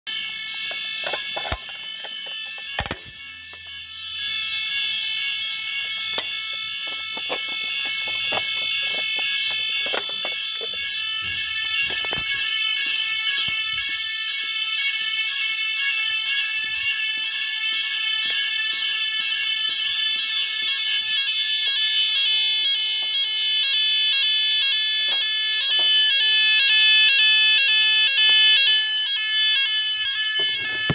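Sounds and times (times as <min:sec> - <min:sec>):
fire alarm sounders: 0:00.0 - 0:30.9.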